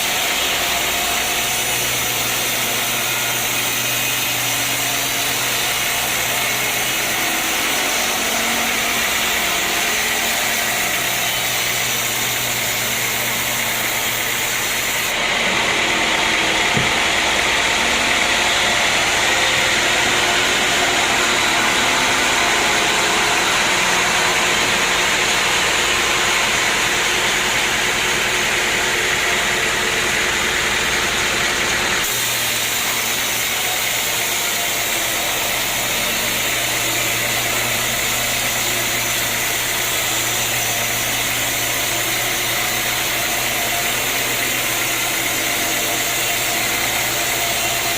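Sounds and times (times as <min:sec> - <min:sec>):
sawmill machinery drone: 0:00.0 - 0:47.9.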